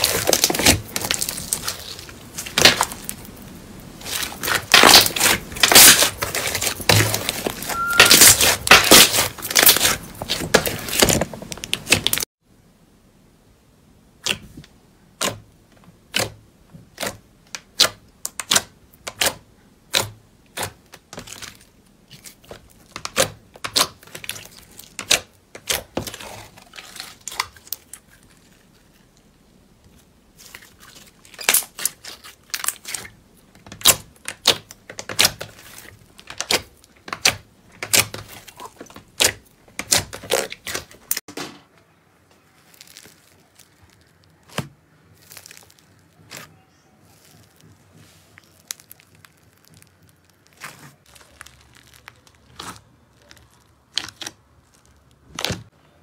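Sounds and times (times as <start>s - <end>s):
slime popping and crackling: 0.0s - 12.3s, 16.1s - 29.3s, 29.9s - 41.3s, 42.4s - 55.7s.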